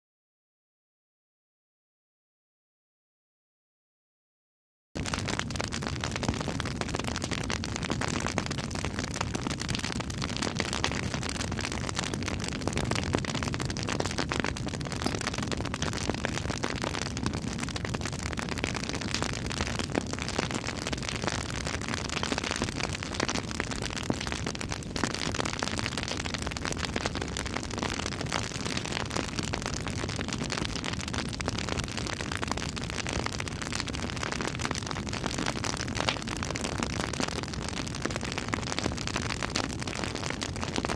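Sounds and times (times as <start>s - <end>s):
campfire crackling and popping: 5.0s - 40.9s.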